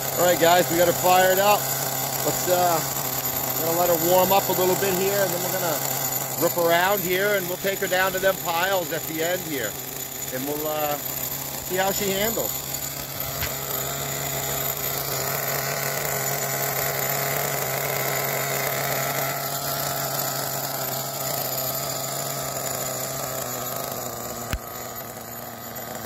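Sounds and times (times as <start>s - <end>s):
small engine idling: 0.0s - 26.0s.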